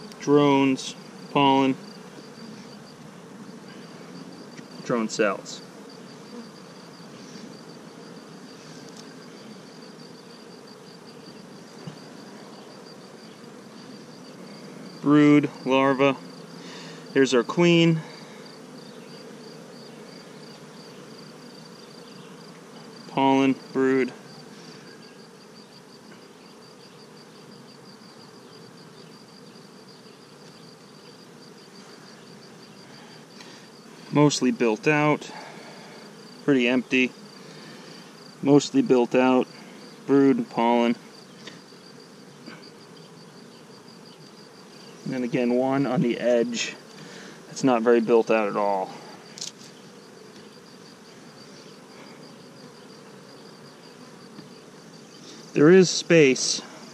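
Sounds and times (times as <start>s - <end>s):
honey bees buzzing: 0.0s - 56.9s.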